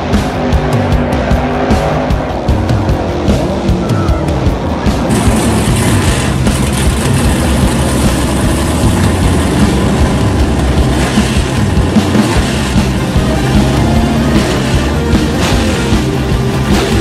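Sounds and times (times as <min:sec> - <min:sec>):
race car engine idling: 0:00.0 - 0:17.0.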